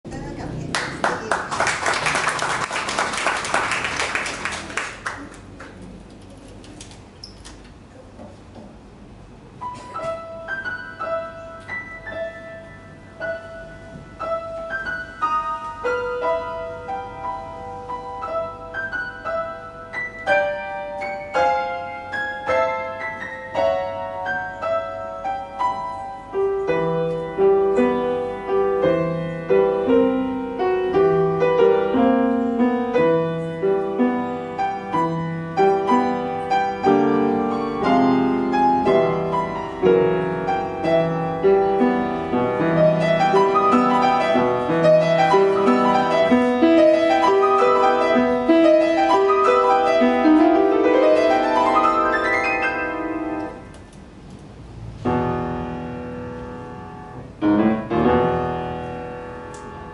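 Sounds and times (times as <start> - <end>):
solo grand piano: 8.0 - 59.9.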